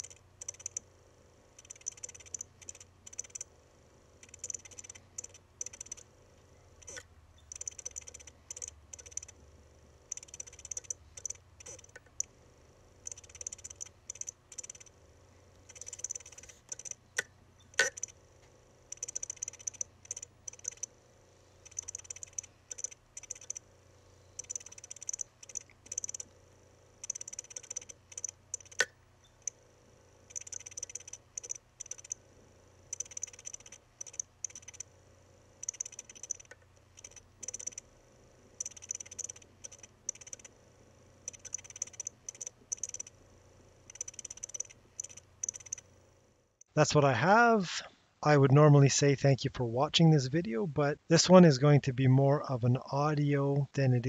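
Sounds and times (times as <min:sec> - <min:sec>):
hard drive head clicking: 0:00.0 - 0:21.0, 0:21.6 - 0:23.7, 0:24.3 - 0:45.9.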